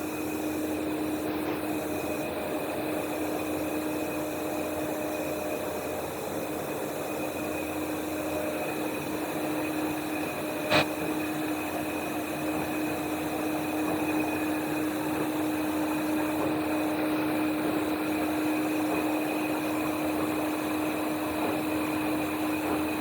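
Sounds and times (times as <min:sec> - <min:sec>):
film extruder humming: 0:00.0 - 0:23.0.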